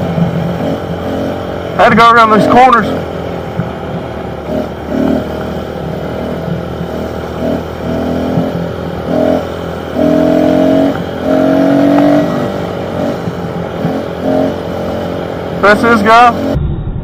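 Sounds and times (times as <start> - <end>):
pit bike engine revving: 0.0 - 16.6.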